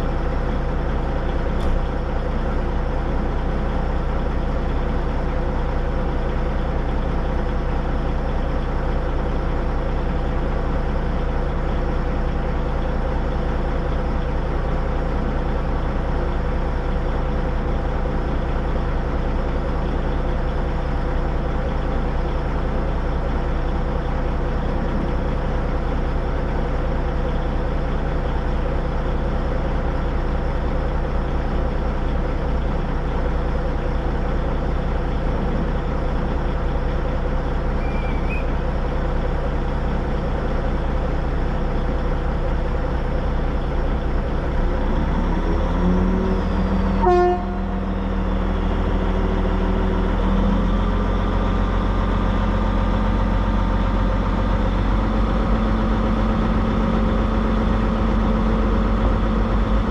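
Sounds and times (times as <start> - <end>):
steam locomotive mechanical hum: 0.0 - 59.9.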